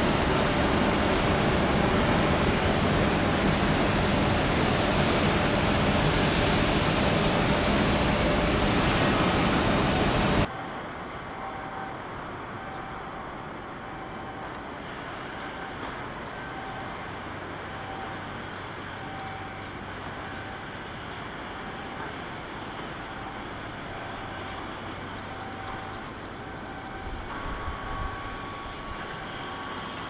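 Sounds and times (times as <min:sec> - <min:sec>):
loud steady rushing noise: 0:00.0 - 0:30.0.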